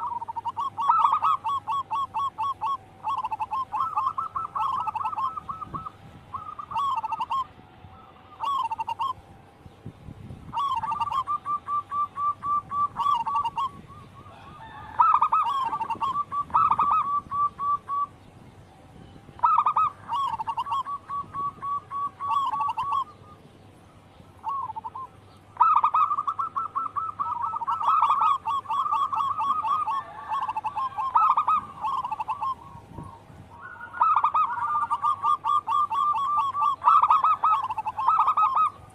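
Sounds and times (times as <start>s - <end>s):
doves cooing: 0.0s - 9.4s, 10.4s - 18.2s, 19.2s - 38.9s.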